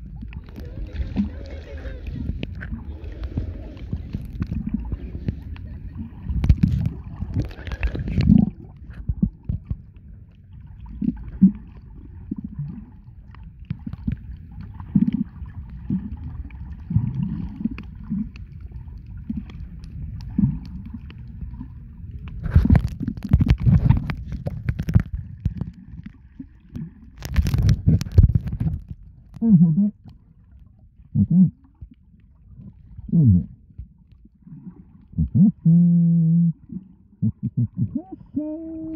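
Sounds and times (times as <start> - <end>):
underwater gurgling and sloshing: 0.0 - 38.9.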